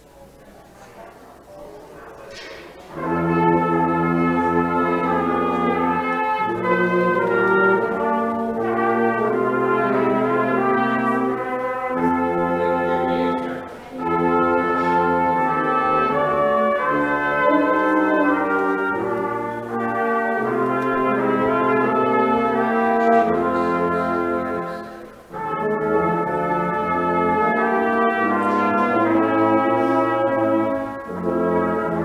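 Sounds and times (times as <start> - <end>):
brass ensemble playing chords: 2.4 - 32.0.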